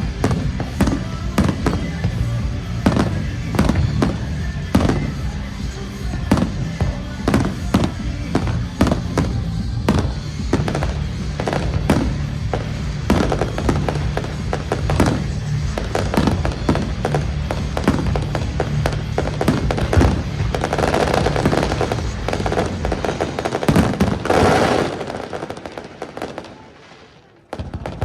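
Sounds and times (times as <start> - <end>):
music: 0.0 - 26.5, 27.5 - 28.0
fireworks bangs: 0.0 - 28.0.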